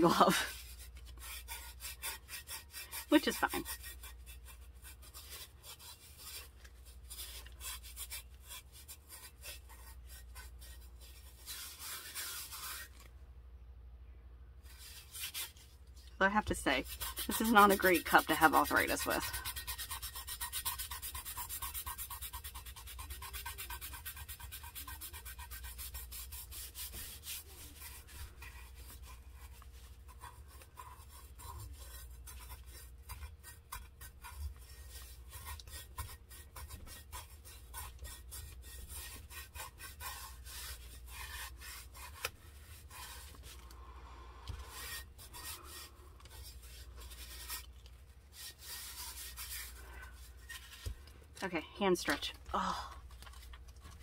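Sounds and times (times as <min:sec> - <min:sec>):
fingertips rubbing glitter on tumbler: 0:00.0 - 0:13.1, 0:14.6 - 0:52.4.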